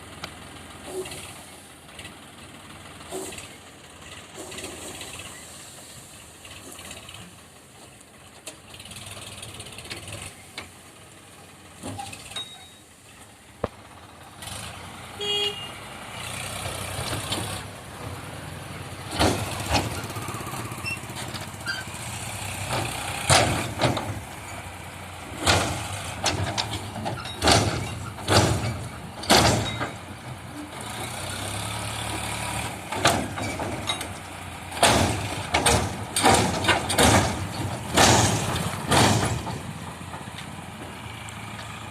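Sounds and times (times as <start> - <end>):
tractor diesel engine droning: 0.0 - 41.9.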